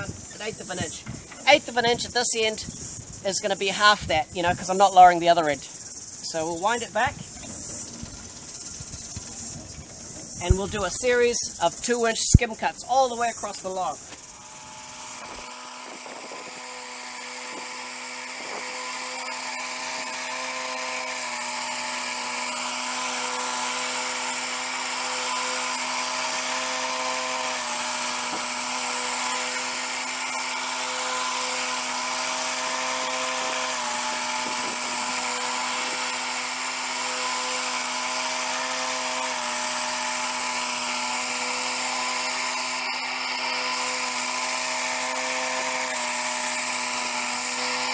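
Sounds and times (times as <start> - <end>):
sawmill motor running: 5.2 - 12.2, 13.3 - 47.9
circular blade cutting log: 6.3 - 47.9.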